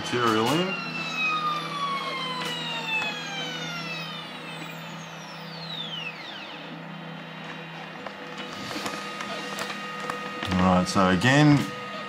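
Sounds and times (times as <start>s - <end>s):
stepper motor whining: 0.0s - 12.0s.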